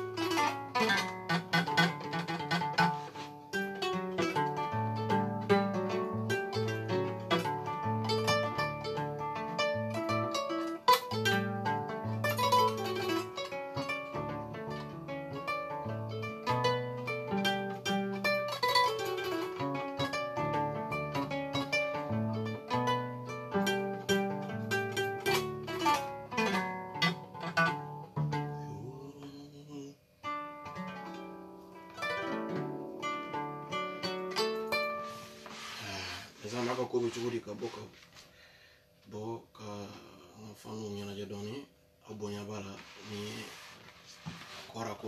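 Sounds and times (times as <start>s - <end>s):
plucked harp-lute: 0.0s - 38.0s, 42.2s - 45.0s.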